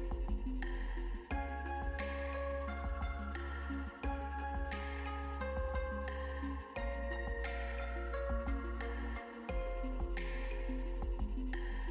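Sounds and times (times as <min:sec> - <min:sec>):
background music with steady beat: 0:00.0 - 0:11.9.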